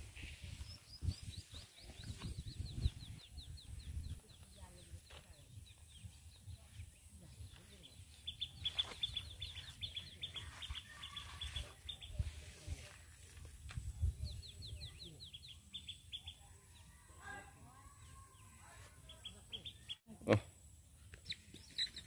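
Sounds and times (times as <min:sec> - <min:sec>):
small bird chirping: 0:00.1 - 0:12.5, 0:14.0 - 0:20.1, 0:21.0 - 0:22.0.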